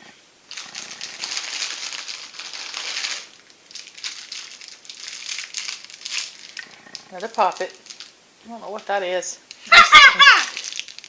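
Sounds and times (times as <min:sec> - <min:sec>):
toy packaging crinkling: 0:00.5 - 0:08.2, 0:09.5 - 0:11.0.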